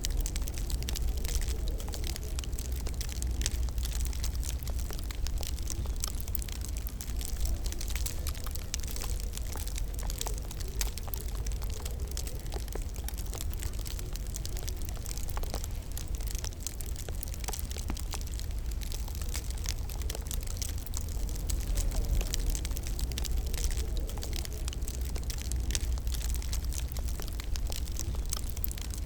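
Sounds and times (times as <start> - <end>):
sharp pops and snaps: 0.0 - 29.0
wood fire crackling: 0.0 - 29.0.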